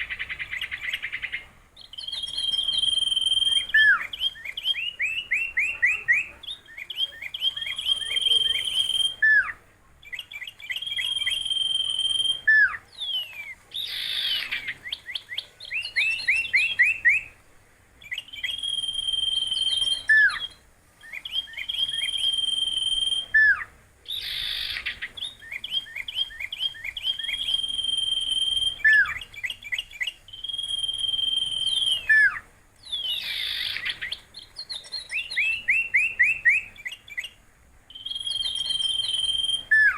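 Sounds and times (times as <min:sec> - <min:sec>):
harsh bird call: 0:00.0 - 0:17.4, 0:18.0 - 0:39.9
songbird singing: 0:00.0 - 0:39.9.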